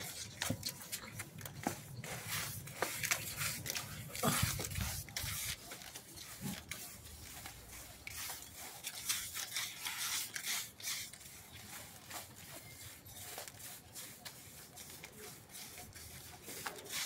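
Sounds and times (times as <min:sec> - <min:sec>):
brush strokes scratching on surface: 0:00.0 - 0:17.0.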